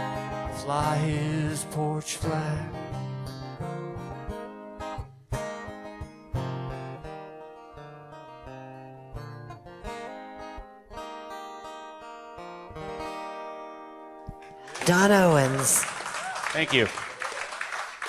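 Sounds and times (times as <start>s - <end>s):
acoustic guitar strumming chords: 0.0s - 15.8s.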